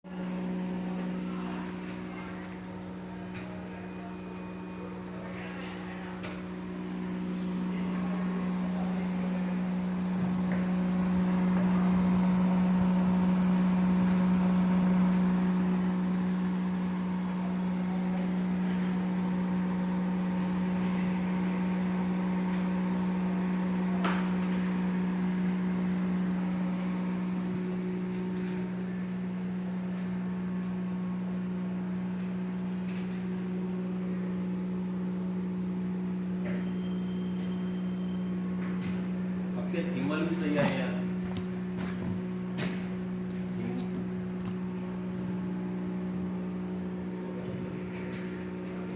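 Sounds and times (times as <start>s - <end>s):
freezer compressor humming: 0.0s - 48.9s.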